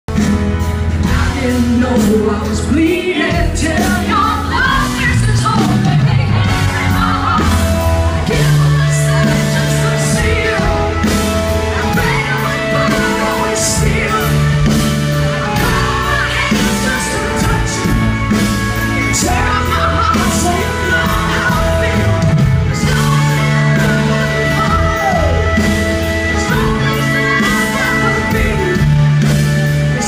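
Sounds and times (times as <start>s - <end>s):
amplified guitar: 0.1s - 30.0s
bass line: 0.1s - 30.0s
person singing: 1.0s - 30.0s.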